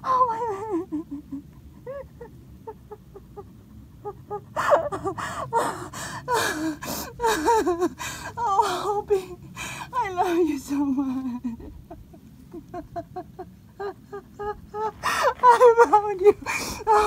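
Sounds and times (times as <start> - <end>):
woman crying: 0.0 - 17.0.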